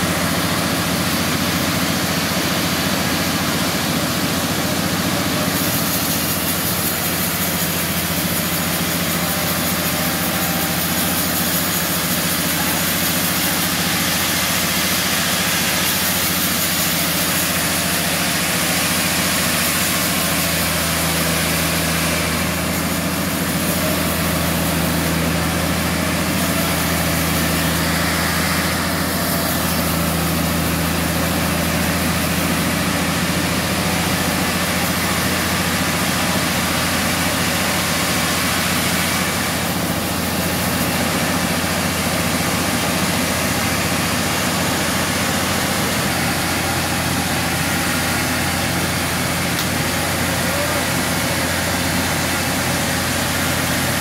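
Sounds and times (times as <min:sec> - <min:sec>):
band sawmill running: 0:00.0 - 0:54.0.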